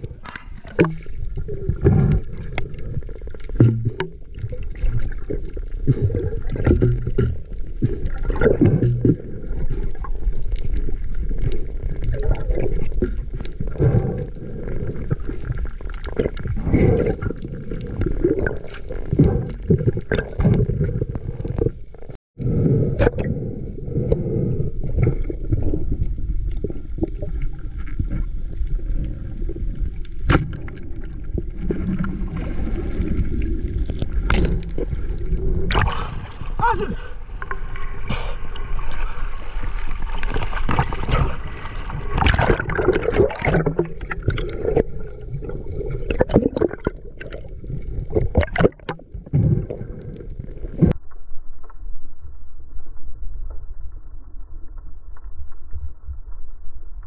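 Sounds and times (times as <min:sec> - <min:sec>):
muffled underwater rush: 0:00.0 - 0:57.0.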